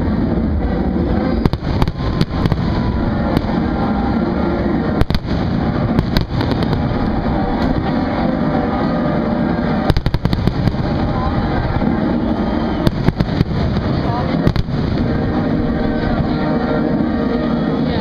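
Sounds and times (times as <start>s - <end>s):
fireworks booming: 0.0s - 17.4s
fireworks crackling: 0.0s - 17.9s.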